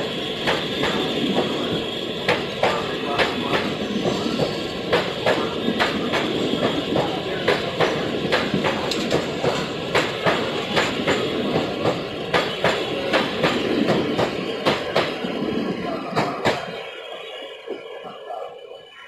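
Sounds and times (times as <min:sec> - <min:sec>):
train passing: 0:00.0 - 0:19.0.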